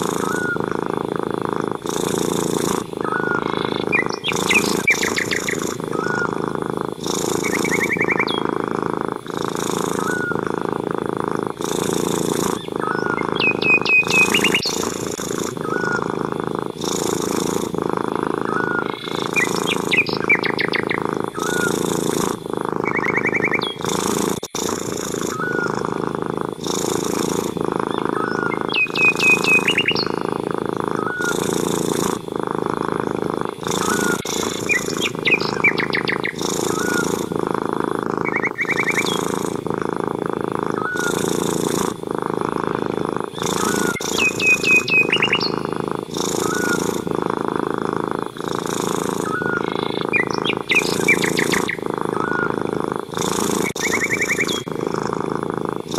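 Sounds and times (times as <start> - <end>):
cat purring: 0.0 - 55.9
small birds chirping: 0.0 - 55.9.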